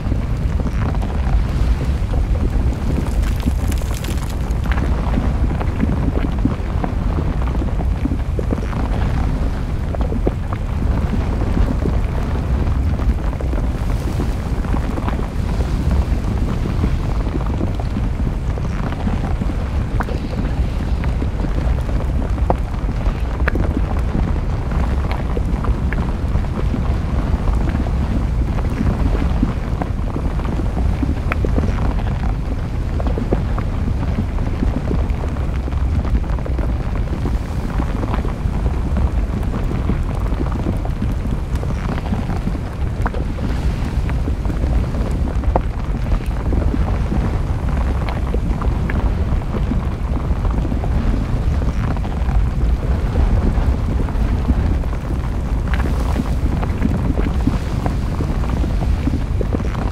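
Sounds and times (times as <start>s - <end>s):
small crackles and pops: 0.0s - 59.9s
volcanic eruption rumbling: 0.0s - 59.9s
wind on microphone: 0.0s - 59.9s.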